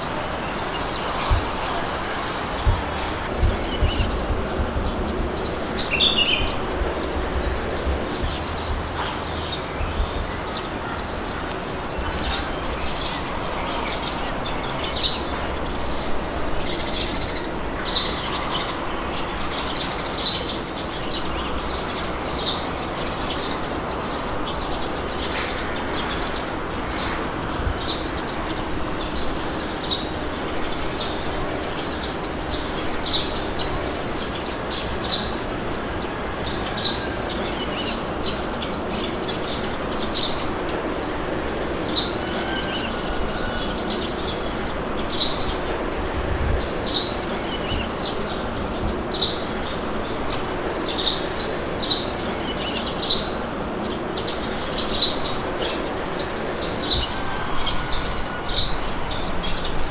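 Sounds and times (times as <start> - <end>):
birds chirping: 0.0 - 59.9
wind blowing: 0.0 - 59.9.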